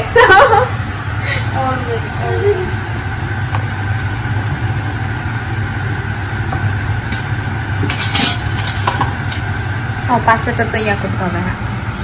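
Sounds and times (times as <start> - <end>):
appliance fan humming: 0.0 - 12.0.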